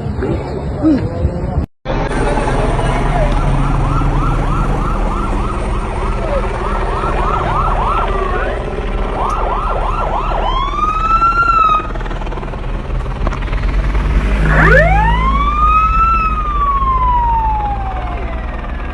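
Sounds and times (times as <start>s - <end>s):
low engine rumble: 0.0s - 18.9s
emergency vehicle siren: 1.9s - 12.8s, 13.6s - 18.9s.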